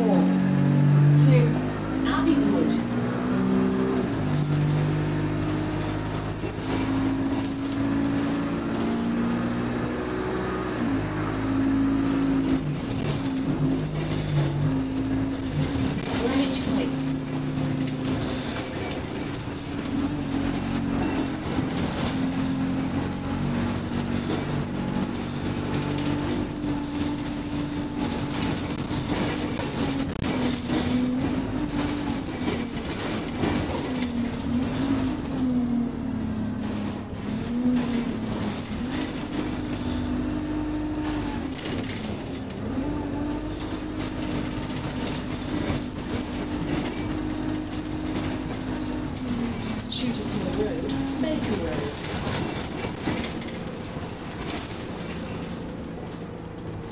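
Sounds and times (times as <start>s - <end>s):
bus engine droning hum: 0.0s - 56.9s
road noise: 0.0s - 56.9s
bus body rattles: 1.2s - 56.9s.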